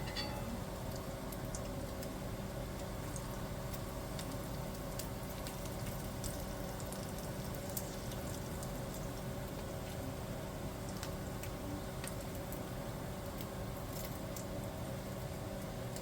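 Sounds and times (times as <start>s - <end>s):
bacon sizzling in a frying pan: 0.0s - 16.0s.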